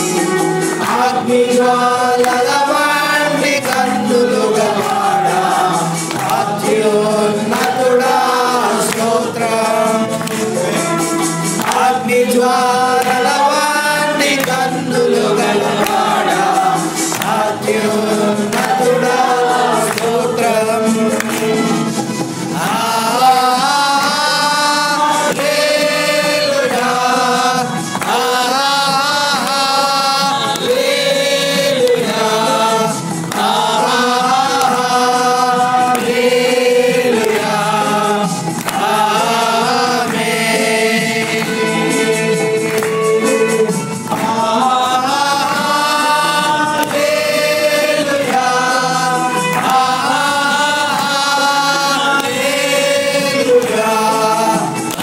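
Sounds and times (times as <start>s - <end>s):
instrumental accompaniment: 0.0s - 55.0s
voices singing: 0.0s - 55.0s.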